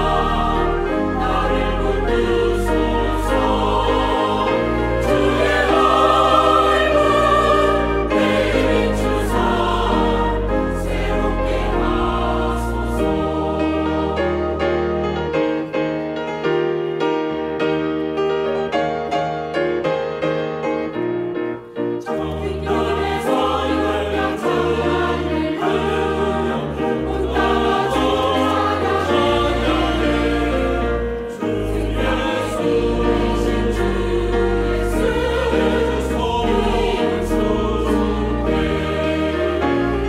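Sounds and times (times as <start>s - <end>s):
choir singing: 0.0s - 16.7s, 22.0s - 40.0s
piano accompaniment: 0.0s - 40.0s.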